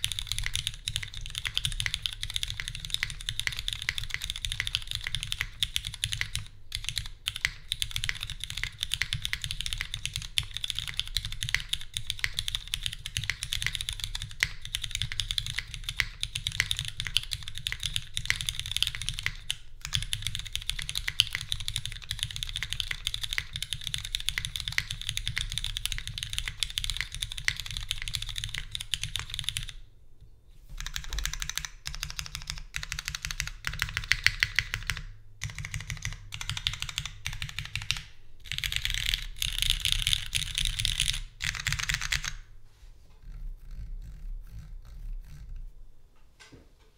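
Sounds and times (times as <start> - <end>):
mechanical keyboard typing: 0.0 - 29.8, 30.8 - 42.4.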